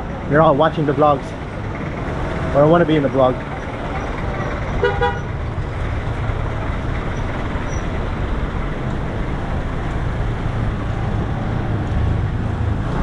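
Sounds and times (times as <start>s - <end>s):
road hum: 0.0s - 13.0s
vehicle engines rumbling: 0.0s - 13.0s.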